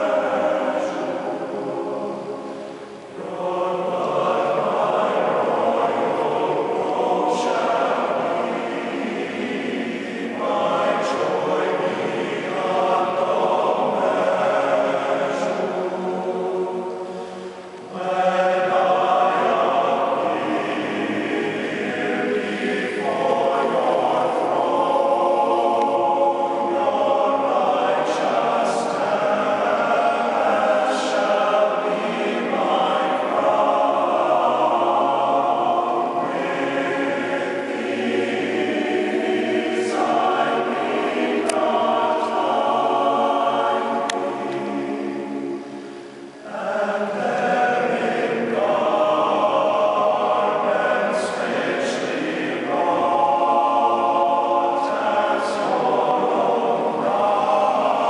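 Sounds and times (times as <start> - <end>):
men's chorus singing a hymn: 0.0 - 58.0.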